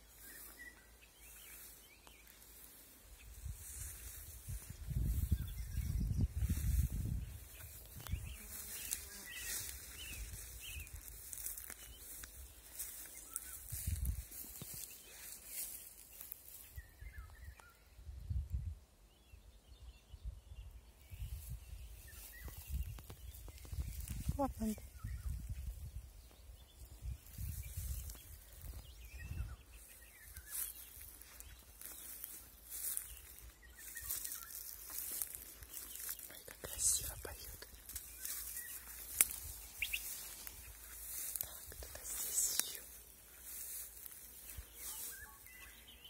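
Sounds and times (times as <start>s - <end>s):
faint birdsong: 0.0s - 46.0s
songbirds chirping: 0.0s - 46.0s.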